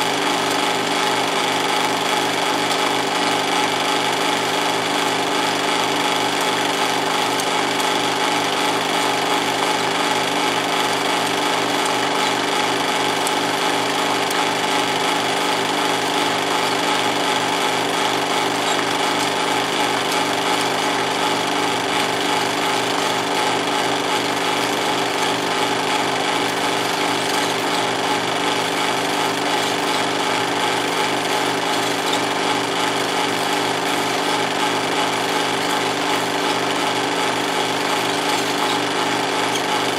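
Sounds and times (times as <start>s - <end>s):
film projector clatter: 0.0s - 39.9s
projector motor hum: 0.0s - 39.9s.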